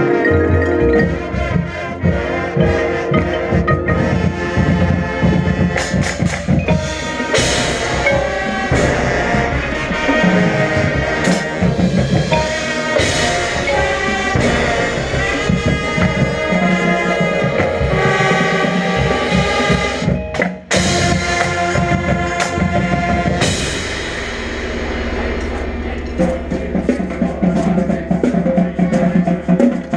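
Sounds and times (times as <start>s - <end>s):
drumline: 0.0s - 29.9s
marching band playing: 0.0s - 29.9s.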